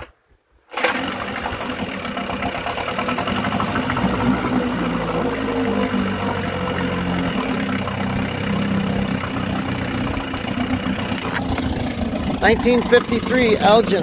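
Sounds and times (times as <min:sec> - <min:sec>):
outboard motor running: 0:00.8 - 0:14.0.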